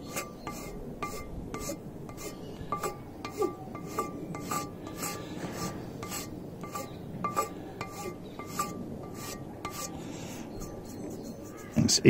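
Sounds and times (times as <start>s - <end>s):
hand file rasping: 0.0s - 11.9s.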